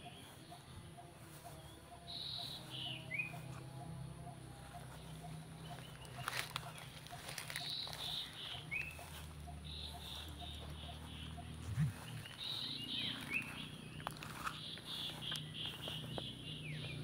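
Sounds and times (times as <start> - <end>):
bird singing: 0.0 - 17.0.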